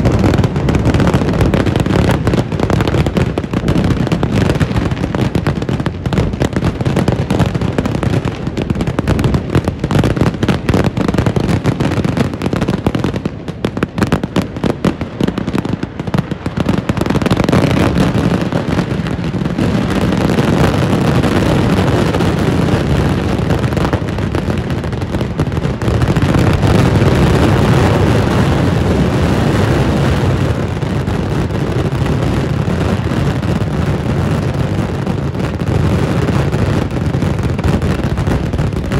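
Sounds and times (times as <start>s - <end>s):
fireworks exploding and crackling: 0.0s - 38.9s.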